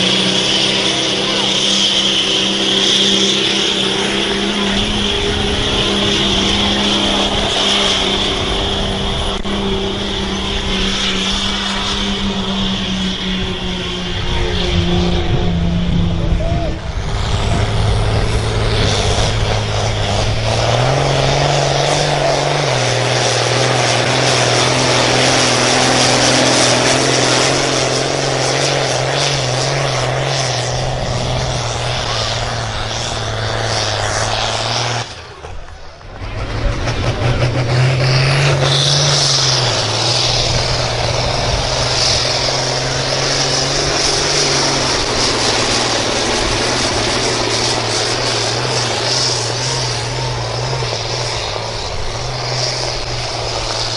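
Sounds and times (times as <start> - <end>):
vehicle engine at high revs: 0.0 - 53.9.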